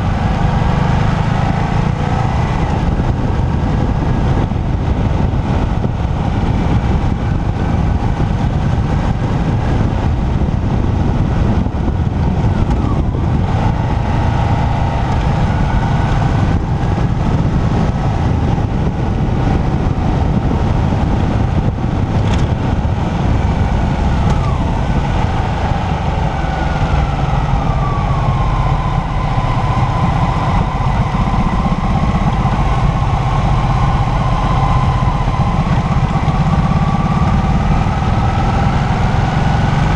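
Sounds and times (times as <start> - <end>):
motorcycle engine whine: 0.0 - 39.9
wind rumble on microphone: 0.0 - 39.9.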